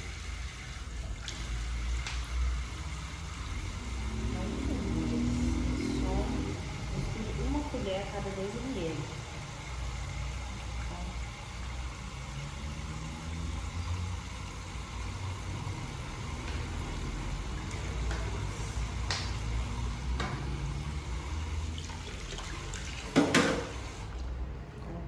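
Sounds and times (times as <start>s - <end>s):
water running from a tap: 0.0s - 24.4s.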